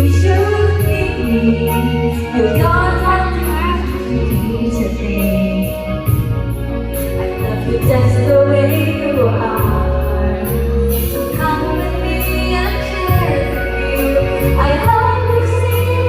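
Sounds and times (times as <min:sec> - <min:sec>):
person singing: 0:00.0 - 0:16.0
pop ballad music: 0:00.0 - 0:16.0.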